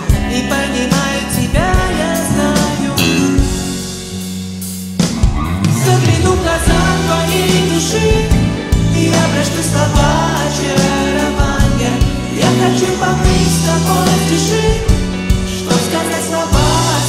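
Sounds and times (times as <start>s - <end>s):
bass: 0.0s - 17.0s
steady drum beat: 0.0s - 17.0s
synthesizer: 0.0s - 17.0s.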